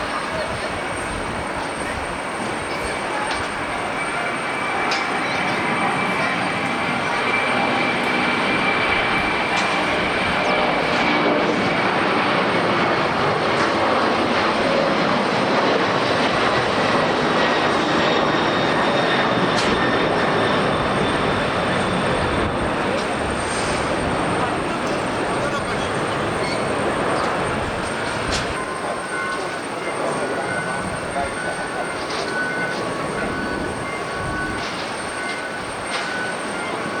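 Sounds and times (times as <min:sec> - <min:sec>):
jet engines rushing and whining: 0:00.0 - 0:37.0.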